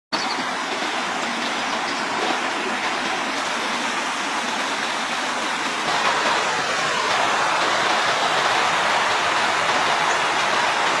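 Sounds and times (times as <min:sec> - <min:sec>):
rushing water: 0:00.2 - 0:11.0.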